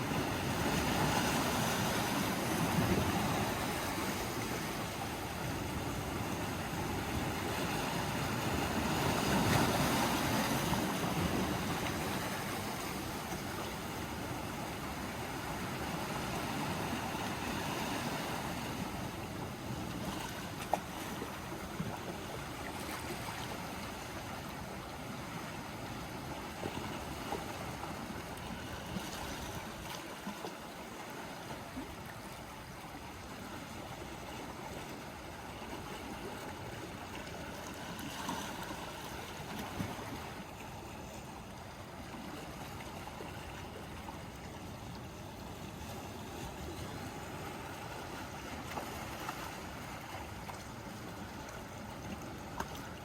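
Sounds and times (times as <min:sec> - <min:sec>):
small waves lapping at shore: 0:00.0 - 0:53.0.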